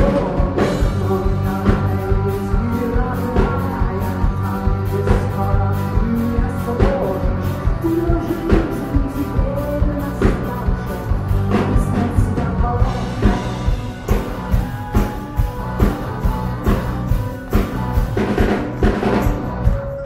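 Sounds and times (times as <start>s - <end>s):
drum kit beat: 0.0s - 20.0s
live rock band playing: 0.0s - 20.0s.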